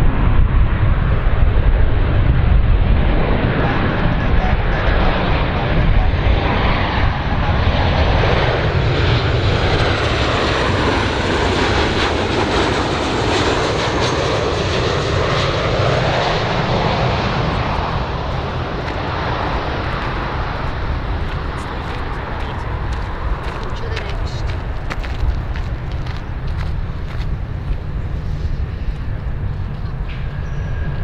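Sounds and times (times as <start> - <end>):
faint high engine whine: 0.0 - 31.0
jet noise rushing: 0.0 - 31.0.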